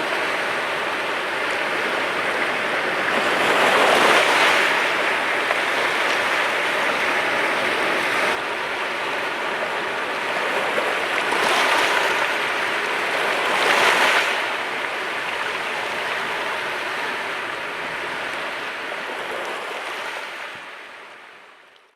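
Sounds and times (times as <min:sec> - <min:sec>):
sea waves washing on shore: 0:00.0 - 0:21.3.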